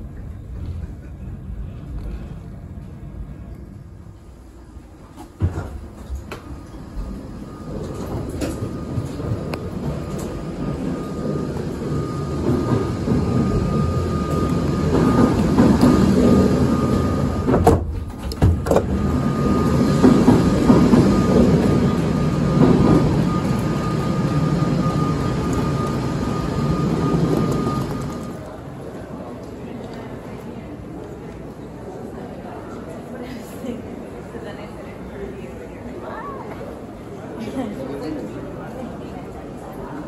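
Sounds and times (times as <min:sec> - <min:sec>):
train carriage rumble: 0:00.0 - 0:40.0.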